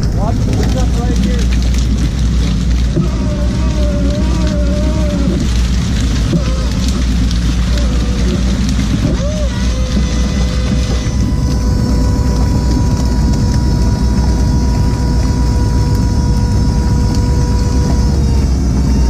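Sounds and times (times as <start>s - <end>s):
boat engine running: 0.0s - 19.0s
steady whine: 0.0s - 19.0s.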